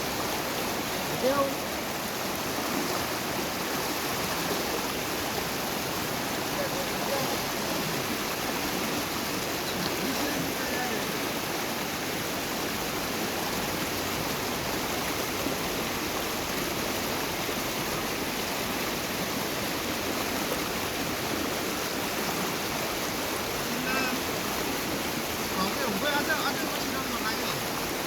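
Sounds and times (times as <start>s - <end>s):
small river flowing: 0.0s - 28.0s.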